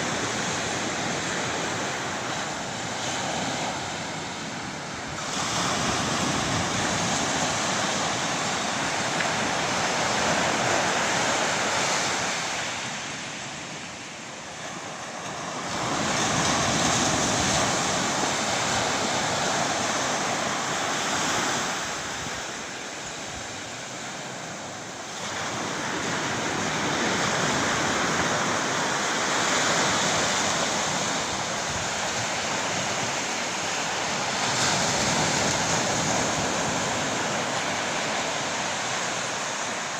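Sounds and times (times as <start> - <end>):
surf rushing: 0.0 - 39.9.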